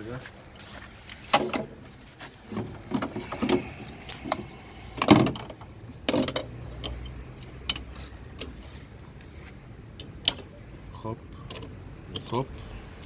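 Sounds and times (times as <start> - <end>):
knocks and clicks of handled gear: 0.0 - 10.6.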